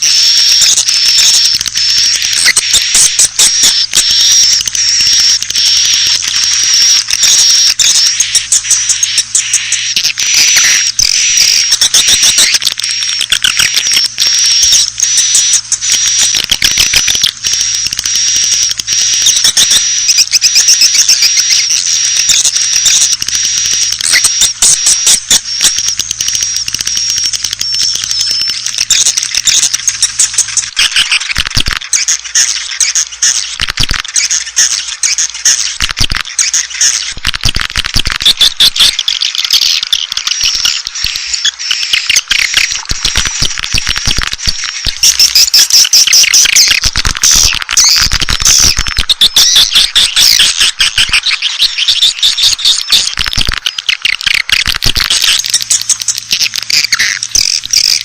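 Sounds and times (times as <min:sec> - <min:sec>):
swiftlets chirping and clicking: 0:00.0 - 0:58.0
thin high steady tone: 0:00.0 - 0:58.0.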